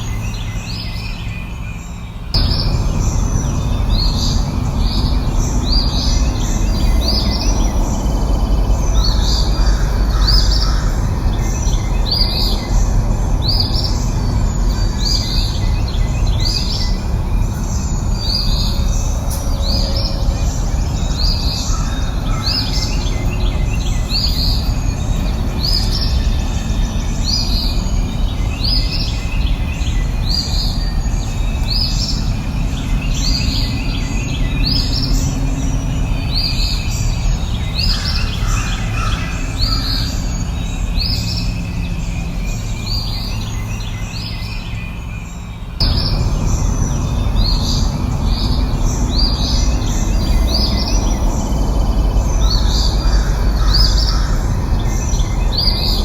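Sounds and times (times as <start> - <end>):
low background rush: 0.0 - 56.0
songbird rising chirp: 0.0 - 56.0.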